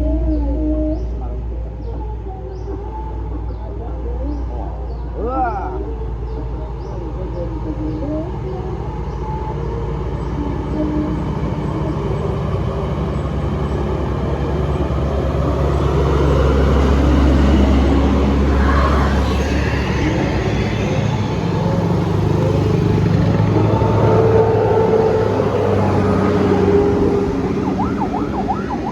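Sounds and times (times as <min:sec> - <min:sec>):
bus diesel engine rumbling: 0:00.0 - 0:28.9.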